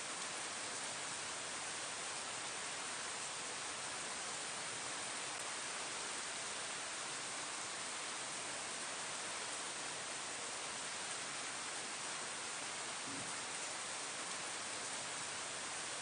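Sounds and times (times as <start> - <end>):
rain falling on leaves: 0.0 - 16.0.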